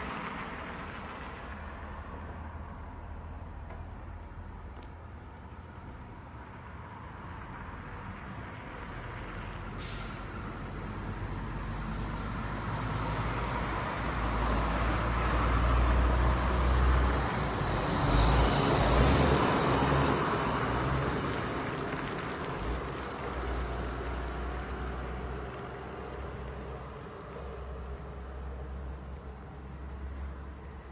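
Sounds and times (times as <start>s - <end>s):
truck engine passing by: 5.6s - 30.9s.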